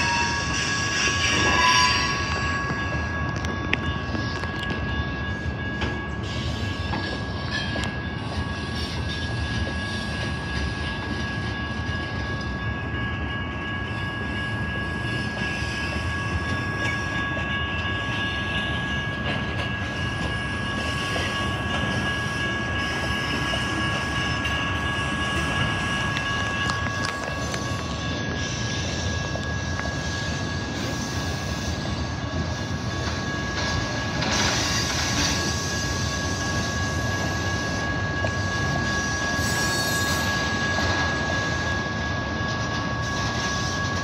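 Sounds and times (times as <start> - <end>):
freight train rumbling and rattling: 0.0 - 44.0
high-pitched tones ringing: 0.0 - 44.0.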